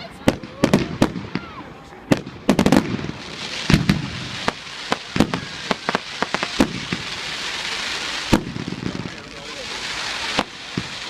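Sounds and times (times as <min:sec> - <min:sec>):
fireworks bangs: 0:00.0 - 0:11.0
fireworks crackling hiss: 0:00.0 - 0:11.0.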